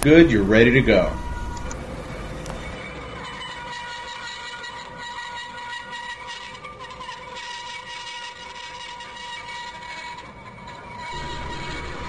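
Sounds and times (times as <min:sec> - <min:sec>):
bandsaw cutting metal whine: 0:00.0 - 0:12.0.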